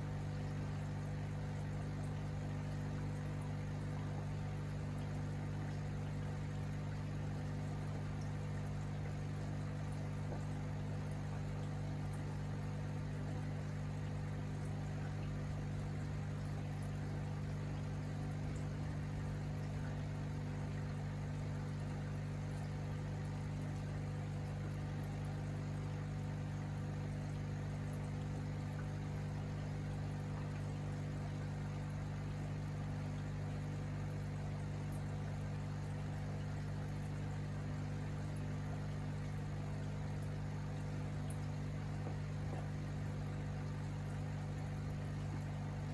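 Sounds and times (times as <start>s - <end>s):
low electrical hum: 0.0s - 45.9s
water bubbling: 2.6s - 45.9s.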